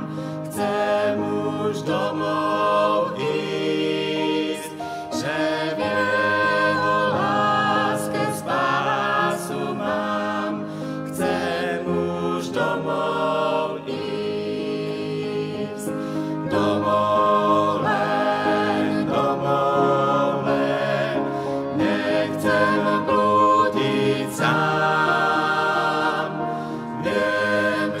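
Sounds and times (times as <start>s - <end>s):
upright piano: 0.0s - 28.0s
vocal quartet singing in parts: 0.0s - 28.0s.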